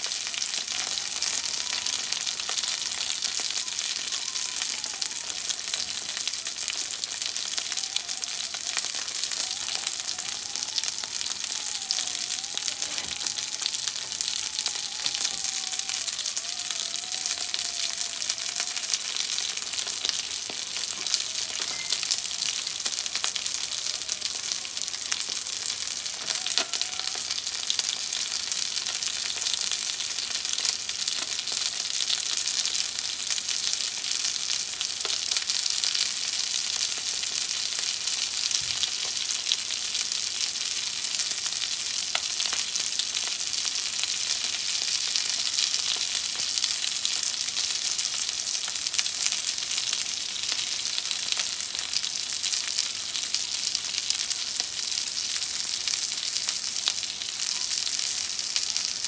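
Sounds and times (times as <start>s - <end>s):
dumplings sizzling in a frying pan: 0.0s - 59.0s.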